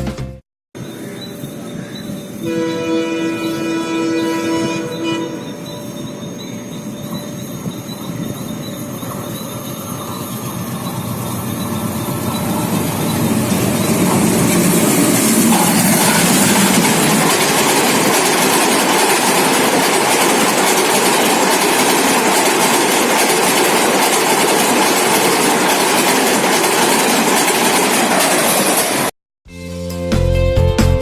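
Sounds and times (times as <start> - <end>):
train coaches passing at speed: 0.8 - 29.1.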